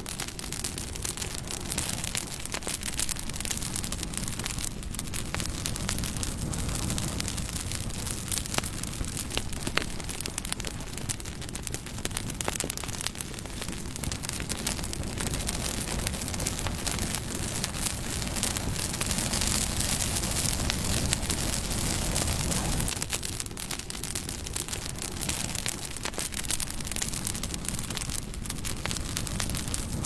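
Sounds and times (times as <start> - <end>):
fire crackles and pops: 0.0 - 30.0
rush of flame: 0.0 - 30.0.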